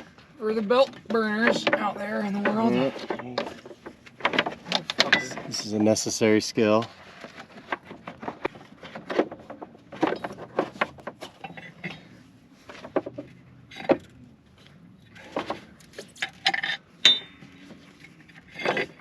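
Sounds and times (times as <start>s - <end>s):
metal tools clinking and knocking: 0.7s - 6.1s, 7.2s - 14.2s, 15.0s - 19.0s.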